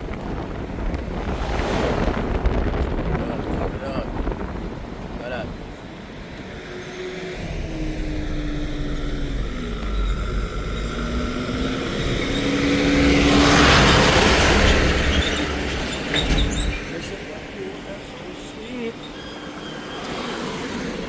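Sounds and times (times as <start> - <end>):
road noise: 0.0 - 21.0
rushing swell of noise: 0.0 - 21.0
vehicle engine while driving: 3.9 - 21.0.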